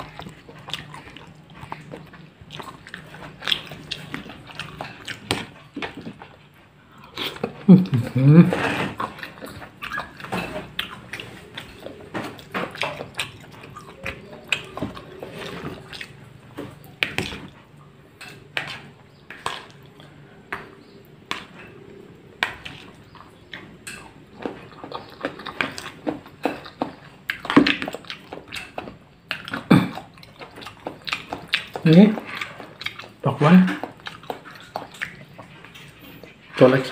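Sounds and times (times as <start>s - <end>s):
wet chewing and mouth smacks: 0.0s - 8.2s, 9.0s - 36.6s.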